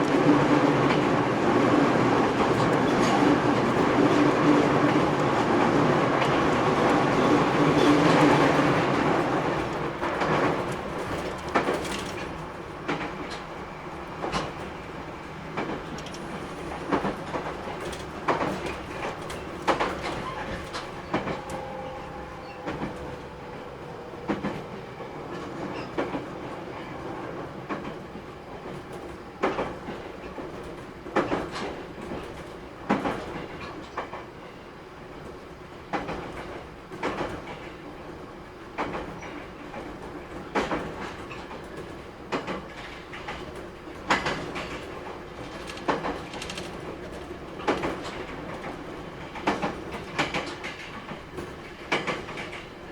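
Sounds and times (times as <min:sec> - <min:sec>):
train wheels clicking over rail joints: 0:00.0 - 0:34.3, 0:35.2 - 0:52.9
train rumble: 0:00.0 - 0:52.9.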